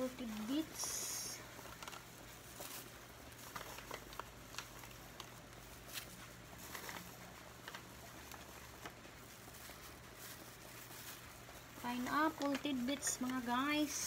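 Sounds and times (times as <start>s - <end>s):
low steady hum: 0.0s - 14.0s
soft clicks and rustling: 0.0s - 14.0s.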